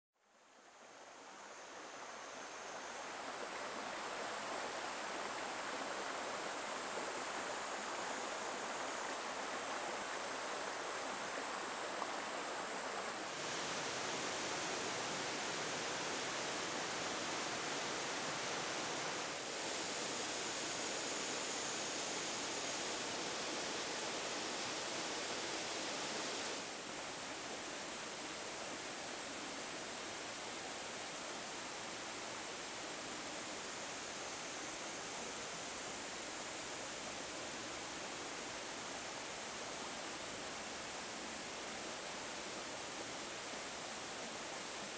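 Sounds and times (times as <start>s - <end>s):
stream rushing over rocks: 1.7s - 44.9s.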